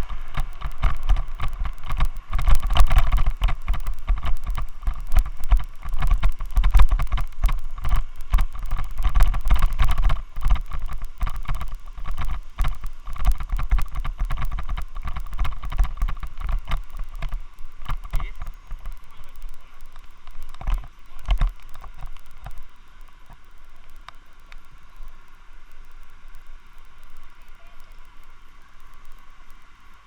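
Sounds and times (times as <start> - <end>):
camera mount vibration rattling: 0.0 - 24.7.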